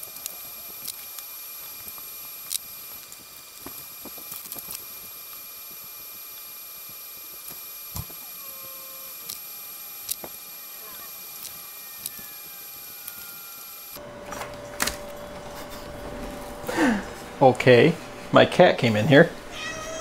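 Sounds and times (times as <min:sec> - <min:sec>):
thin high-pitched whine: 0:00.0 - 0:16.5.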